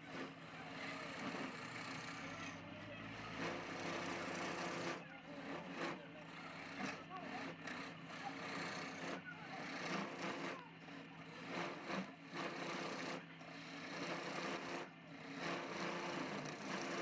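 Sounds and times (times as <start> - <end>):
tool scraping spinning wood: 0.0 - 17.0
wood lathe motor humming: 0.0 - 17.0.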